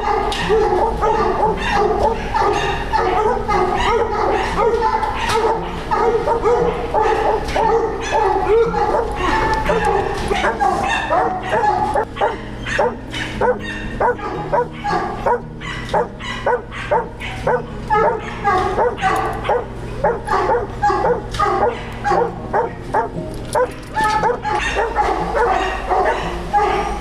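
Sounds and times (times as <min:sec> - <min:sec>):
dogs barking: 0:00.0 - 0:27.0
dogs yipping: 0:00.0 - 0:27.0.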